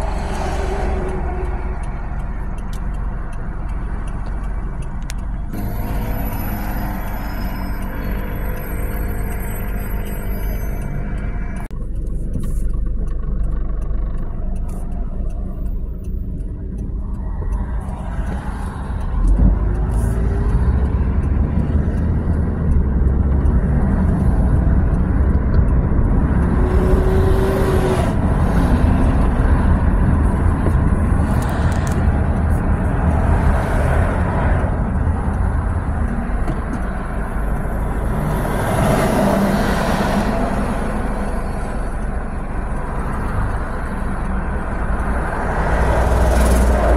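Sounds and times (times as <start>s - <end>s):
car engine and tyre rumble: 0.0s - 46.9s
traffic passing: 0.0s - 46.9s.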